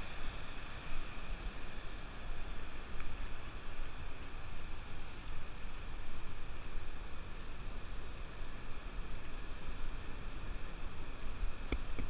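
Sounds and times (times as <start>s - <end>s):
ocean surf washing on sand: 0.0s - 12.0s.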